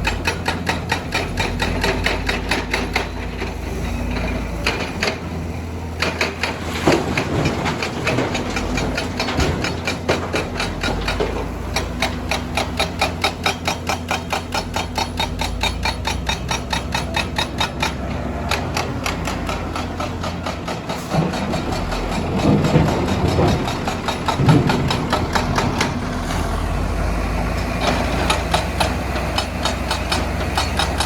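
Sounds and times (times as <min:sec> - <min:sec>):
hydraulic breaker hammering rock: 0:00.0 - 0:03.6, 0:06.0 - 0:26.1, 0:27.8 - 0:31.0
diesel engine running: 0:00.0 - 0:31.0.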